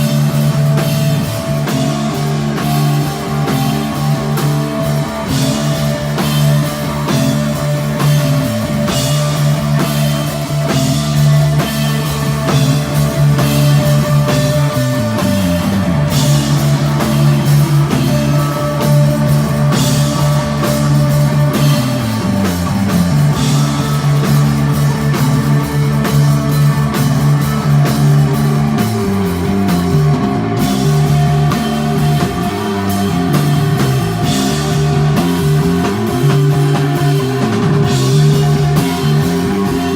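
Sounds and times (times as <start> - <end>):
drum beat: 0.0 - 39.9
electric guitar: 0.0 - 39.9
sliding bass line: 0.0 - 39.9.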